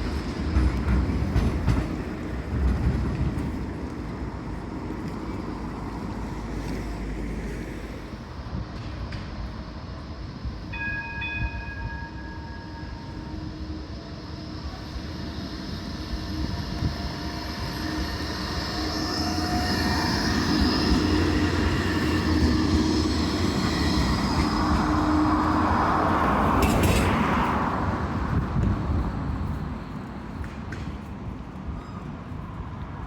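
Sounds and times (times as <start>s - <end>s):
tram rumble and motor whine: 0.0s - 33.0s.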